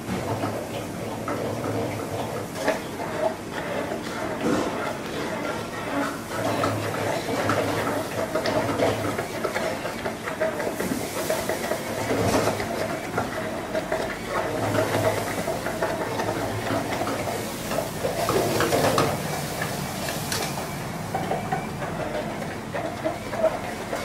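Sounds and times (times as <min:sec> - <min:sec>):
immersion blender churning: 0:00.0 - 0:24.0.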